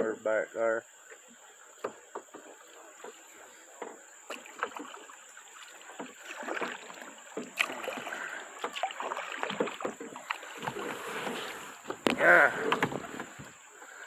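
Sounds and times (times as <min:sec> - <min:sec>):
paddle splashing in water: 0:00.9 - 0:14.0.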